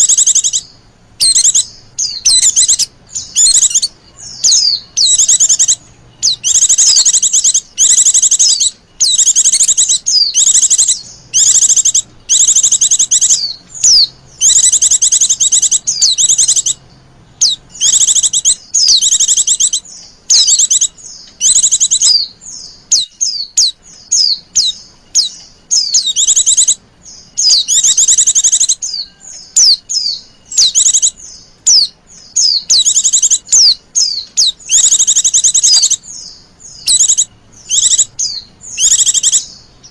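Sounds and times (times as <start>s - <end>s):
bird chattering trills: 0.0s - 39.9s.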